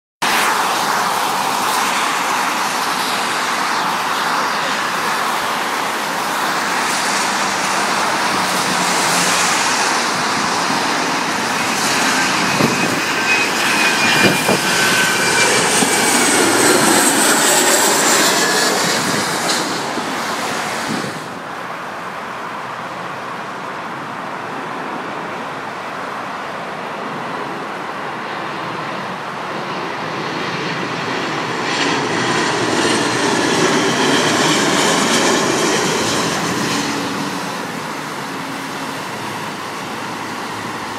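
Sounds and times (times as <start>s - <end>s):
jet airliner passing overhead: 0.2s - 40.9s
steady background noise: 0.2s - 40.9s.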